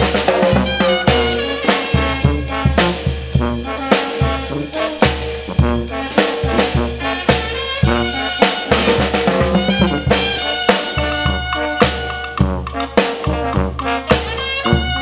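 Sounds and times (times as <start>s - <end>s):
brass band playing: 0.0s - 15.0s
drums beating: 0.0s - 15.0s.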